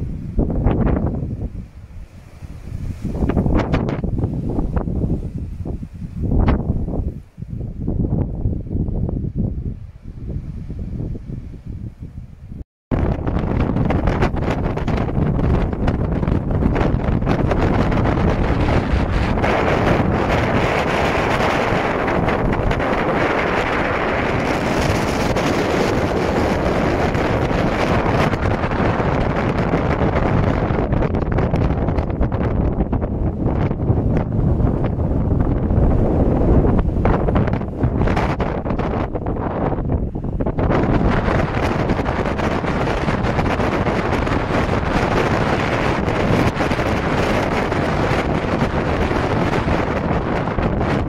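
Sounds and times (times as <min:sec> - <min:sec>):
strong wind buffeting microphone: 0:00.0 - 0:51.0.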